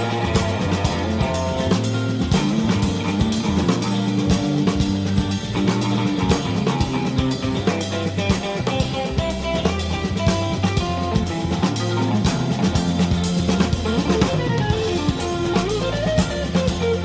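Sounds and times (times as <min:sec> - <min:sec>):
bass guitar: 0:00.0 - 0:17.0
drum kit beat: 0:00.0 - 0:17.0
guitar: 0:00.0 - 0:17.0.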